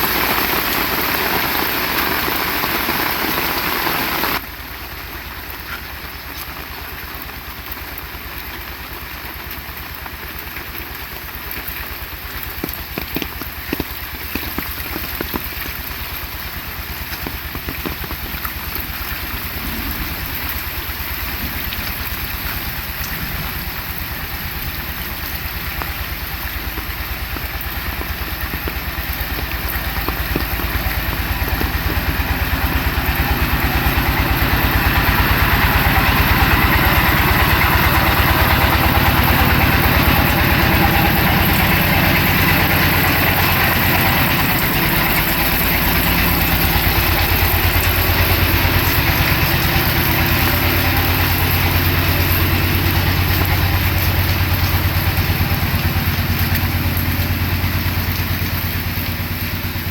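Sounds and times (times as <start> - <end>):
engine idling: 0.0 - 59.9
rain hiss: 0.0 - 59.9.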